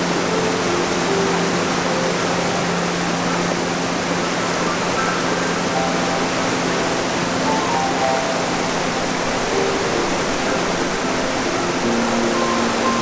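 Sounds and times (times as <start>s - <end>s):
river water rushing: 0.0s - 13.0s
soft held musical notes: 0.0s - 13.0s
wind: 0.0s - 13.0s.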